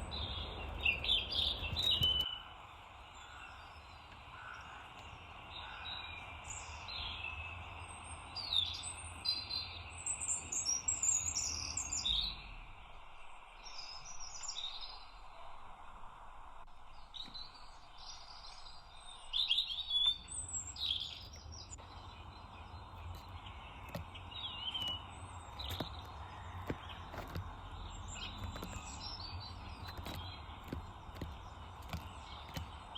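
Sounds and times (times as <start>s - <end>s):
outdoor background rush: 0.0s - 32.9s
songbirds chirping and singing: 0.0s - 32.9s.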